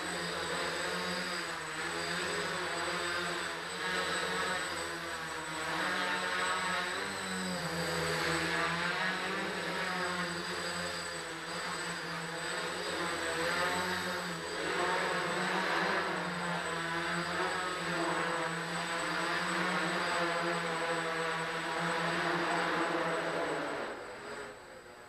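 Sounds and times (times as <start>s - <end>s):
quadcopter propellers whirring: 0.0s - 25.0s.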